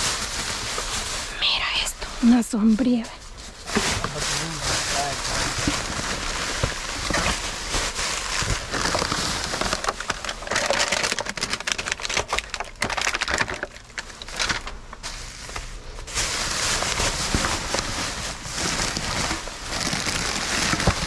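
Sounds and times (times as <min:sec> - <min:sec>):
bags and packaging rustling: 0:00.0 - 0:21.0.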